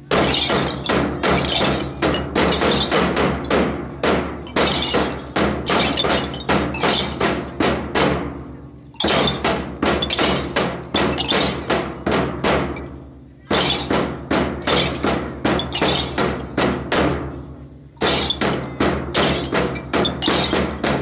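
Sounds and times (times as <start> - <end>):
metal cylinders clashing: 0.0 - 8.2, 8.9 - 21.0.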